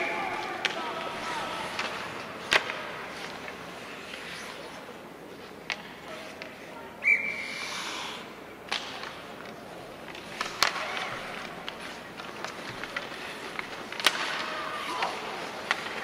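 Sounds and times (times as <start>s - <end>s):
hockey sticks clacking on puck: 0.0s - 6.7s, 8.2s - 16.0s.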